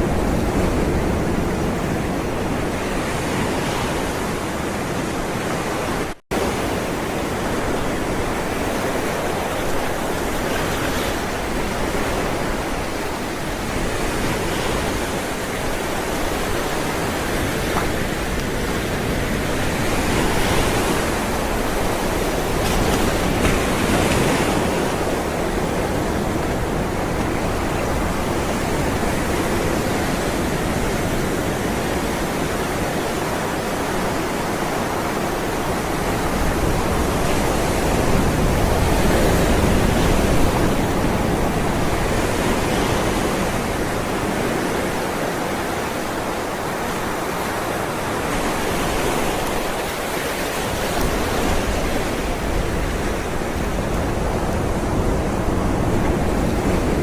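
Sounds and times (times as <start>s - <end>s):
ocean waves on shore: 0.0s - 57.0s.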